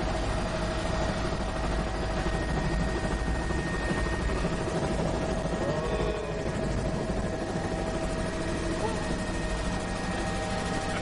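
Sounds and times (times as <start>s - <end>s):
constant whine: 0.0s - 11.0s
helicopter engine and rotor noise: 0.0s - 11.0s.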